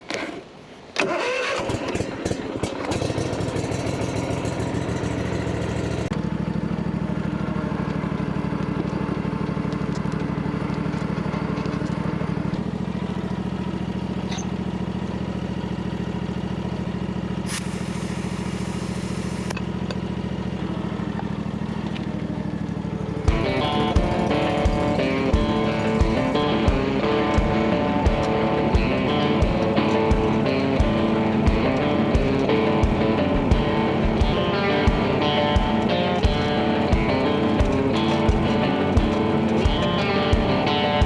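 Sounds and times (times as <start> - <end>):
riding mower engine running: 1.0 - 41.0.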